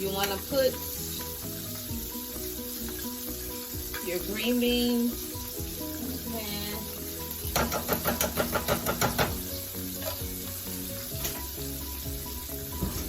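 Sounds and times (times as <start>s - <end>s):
fish sizzling in hot oil: 0.0s - 13.0s
rhythmic clattering strokes: 0.0s - 13.0s.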